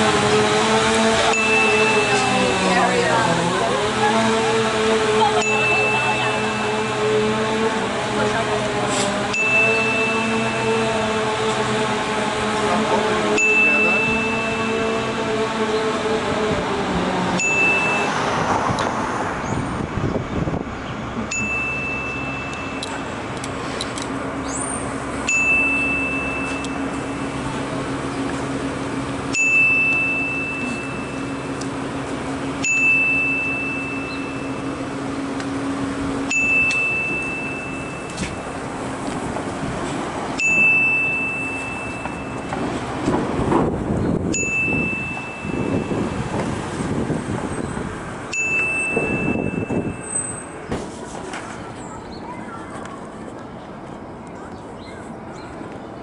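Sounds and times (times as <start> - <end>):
street noise: 0.0 - 56.0.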